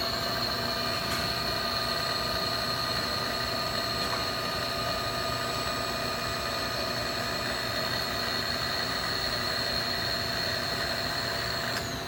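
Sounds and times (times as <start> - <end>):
high-pitched machine whine: 0.0 - 12.0
machinery humming: 0.0 - 12.0.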